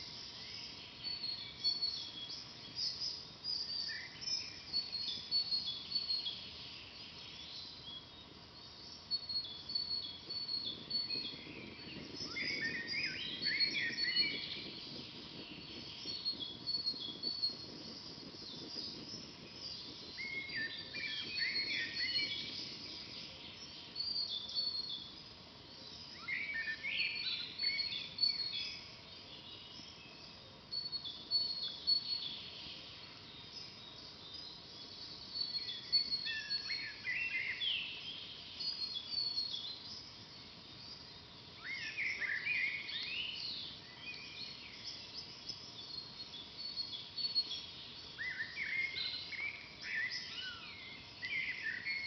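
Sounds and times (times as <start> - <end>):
soft low rustling hiss: 0.0 - 52.0.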